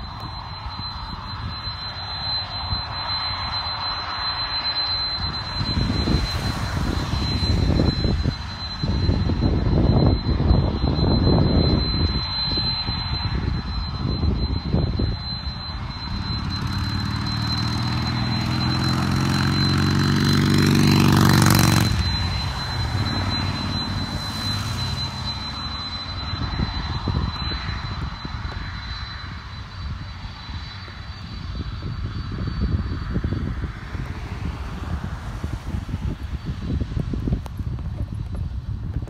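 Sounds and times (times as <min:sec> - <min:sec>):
distant jet engines rumbling: 0:00.0 - 0:39.0.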